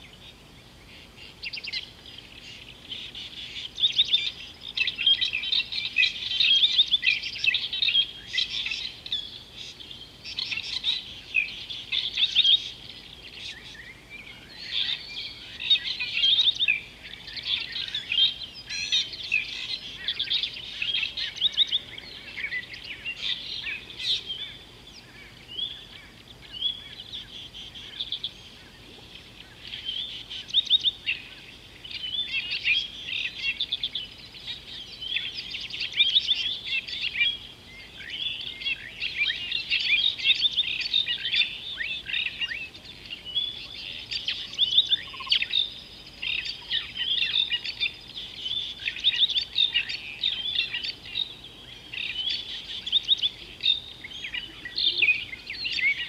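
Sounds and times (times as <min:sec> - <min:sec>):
birds chirping in chorus: 0:00.0 - 0:56.0.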